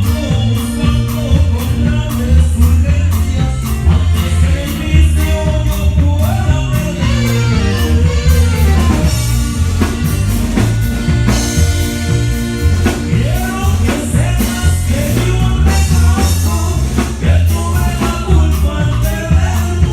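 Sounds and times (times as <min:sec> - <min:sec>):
latin dance music with singing: 0:00.0 - 0:19.9.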